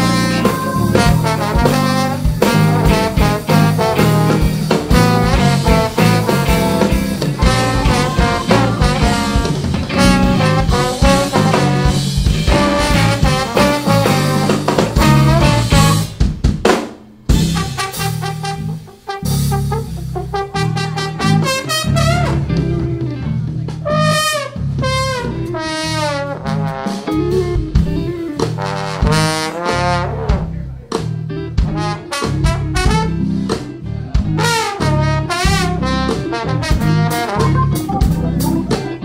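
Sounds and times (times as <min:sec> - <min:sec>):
trombone solo: 0:00.0 - 0:16.2, 0:17.4 - 0:22.6, 0:23.8 - 0:27.6, 0:28.4 - 0:30.6, 0:31.7 - 0:33.2, 0:34.4 - 0:39.0
live band playing: 0:00.0 - 0:39.0.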